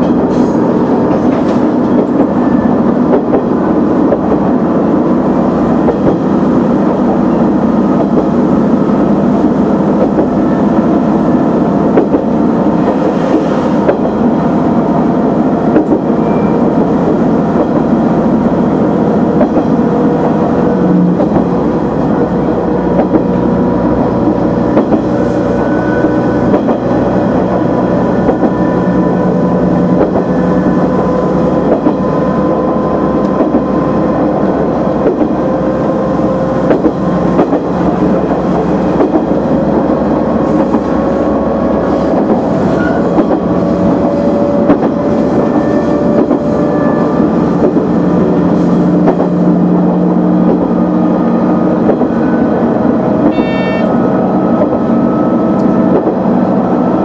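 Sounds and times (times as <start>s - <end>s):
rail noise: 0.0s - 57.0s.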